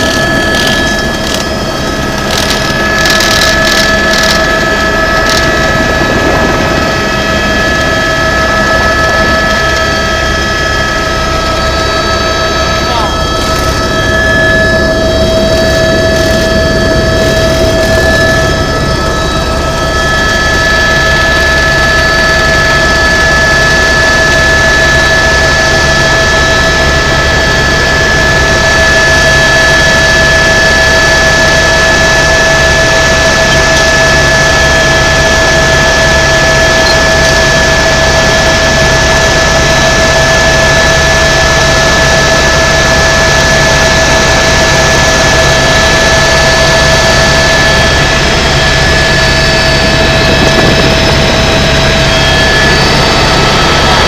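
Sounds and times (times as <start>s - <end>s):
helicopter turbine and rotors: 0.0s - 54.0s.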